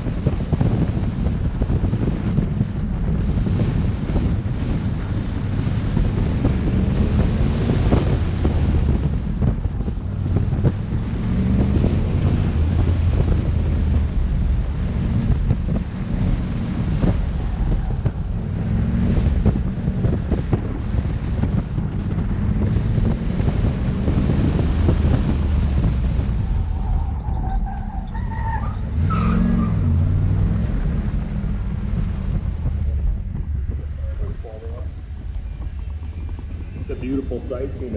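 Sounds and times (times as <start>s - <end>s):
car engine revving: 0.0s - 37.9s
wind buffeting microphone: 0.0s - 37.9s.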